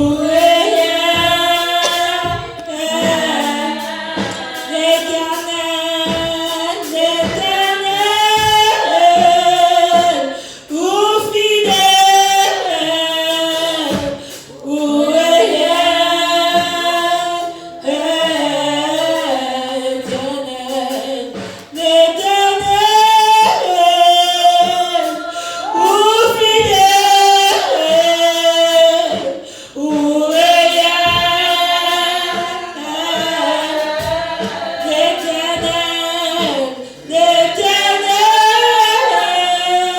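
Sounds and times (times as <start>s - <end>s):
group singing a worship song: 0.0s - 39.9s.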